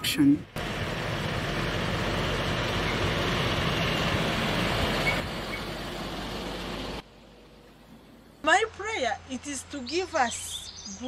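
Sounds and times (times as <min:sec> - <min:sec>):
heavy truck driving past: 0:00.6 - 0:09.9.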